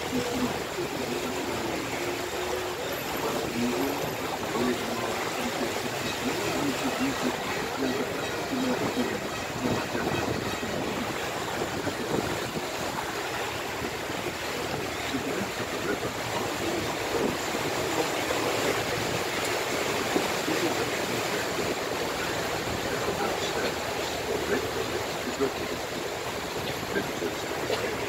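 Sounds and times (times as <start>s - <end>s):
boat motor: 0.0s - 28.0s
water rushing: 0.0s - 28.0s.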